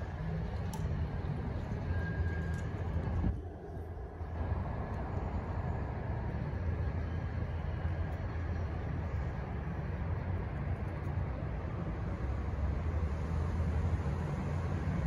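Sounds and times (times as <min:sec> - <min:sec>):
low rumble of passing traffic: 0:00.0 - 0:15.0.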